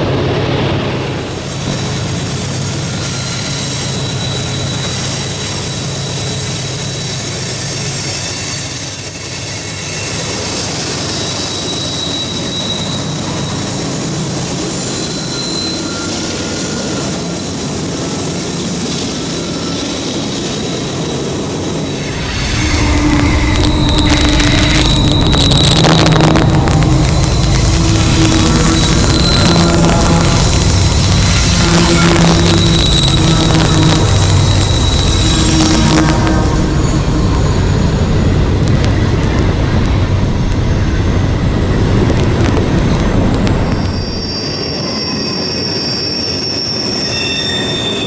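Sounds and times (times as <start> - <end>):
train wheels rumbling on rail: 0.0 - 48.0
high wheel squeal: 1.2 - 48.0.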